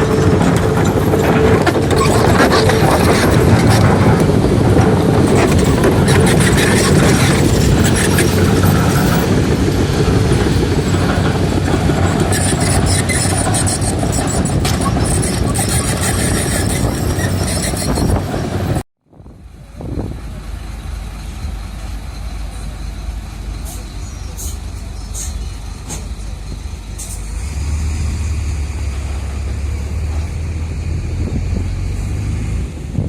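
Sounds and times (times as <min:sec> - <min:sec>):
motor vehicle rumble: 0:00.0 - 0:33.0.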